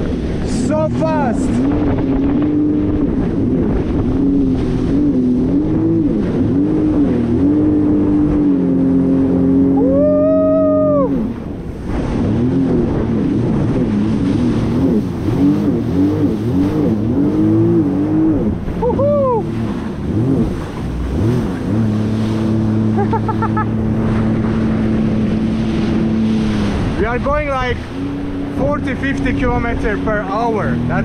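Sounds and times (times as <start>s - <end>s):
jet ski engine running: 0.0s - 31.0s
water rushing and spraying: 0.0s - 31.0s.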